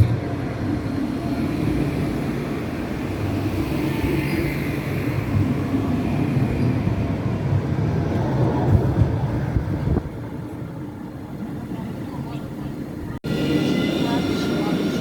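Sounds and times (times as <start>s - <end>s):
tram clunks: 0.0s - 15.0s
tram rumbling: 0.0s - 15.0s.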